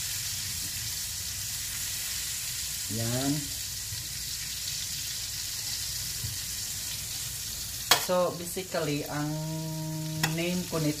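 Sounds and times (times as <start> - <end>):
butter sizzling in a pan: 0.0 - 11.0.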